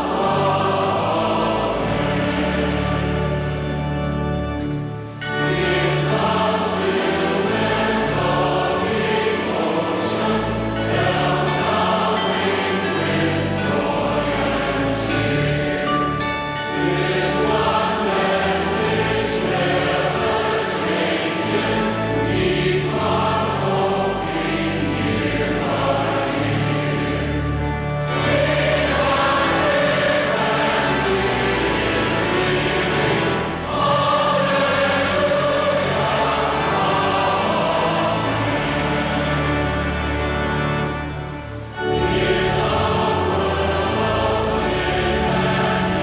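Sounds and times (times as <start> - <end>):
choir singing: 0.0 - 46.0
instrumental accompaniment: 0.0 - 46.0.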